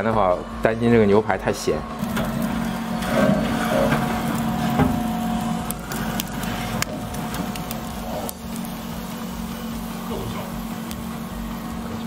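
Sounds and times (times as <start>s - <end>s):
electric broiler humming: 1.4s - 12.0s.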